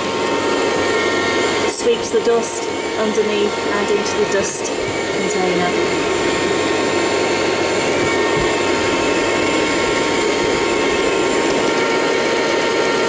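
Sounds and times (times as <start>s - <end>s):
robot vacuum cleaner whining: 0.0s - 13.0s.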